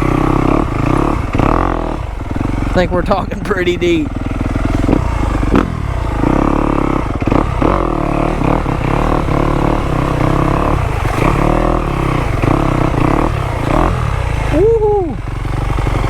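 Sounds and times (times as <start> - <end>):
dirt bike engine revving: 0.0 - 16.0
clatter: 0.1 - 14.5, 15.3 - 16.0.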